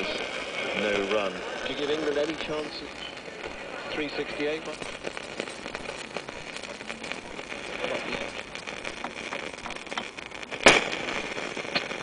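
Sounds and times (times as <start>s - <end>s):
radio static and hiss: 0.0s - 12.0s.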